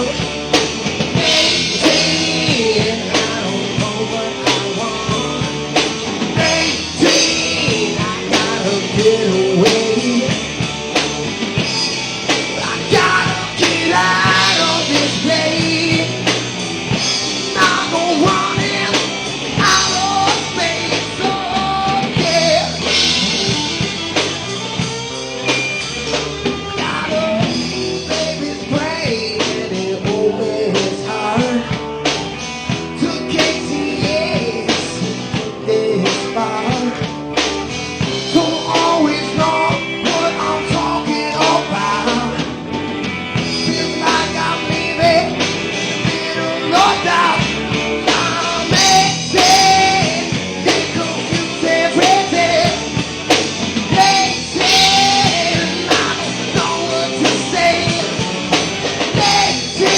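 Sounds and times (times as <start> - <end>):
drum kit: 0.0 - 59.9
electric guitar: 0.0 - 59.9
person singing: 1.1 - 10.5, 12.5 - 16.4, 17.4 - 24.9, 26.4 - 31.9, 32.8 - 37.2, 38.3 - 42.6, 43.4 - 53.0, 53.8 - 59.9.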